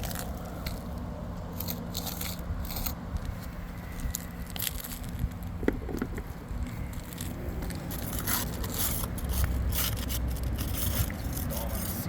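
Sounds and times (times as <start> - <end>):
asphalt shingle being pried up: 0.0 - 12.0.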